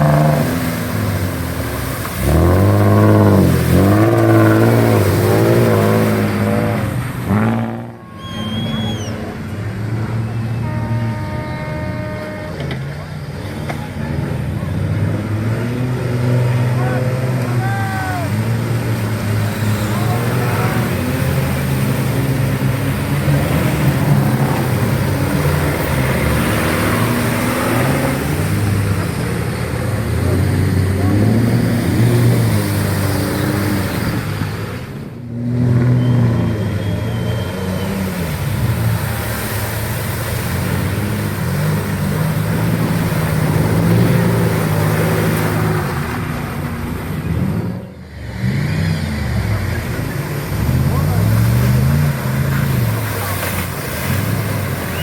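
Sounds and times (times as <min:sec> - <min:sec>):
engines revving: 0:00.0 - 0:55.0.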